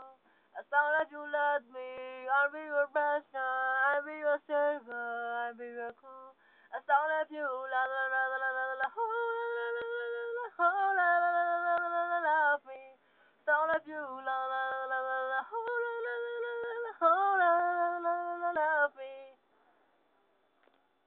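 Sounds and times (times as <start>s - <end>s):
young man singing unaccompanied: 0.0s - 19.4s.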